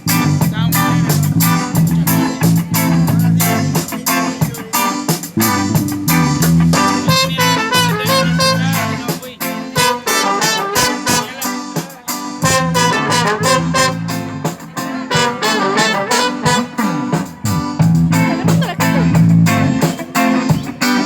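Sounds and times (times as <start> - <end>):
live band playing: 0.0 - 21.0
steady drumbeat: 0.0 - 21.0.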